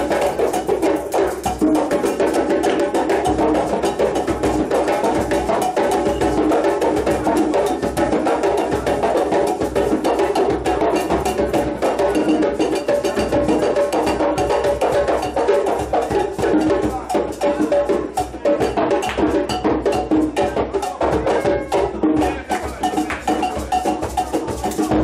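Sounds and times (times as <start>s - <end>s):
fast hand drumming: 0.0s - 25.0s.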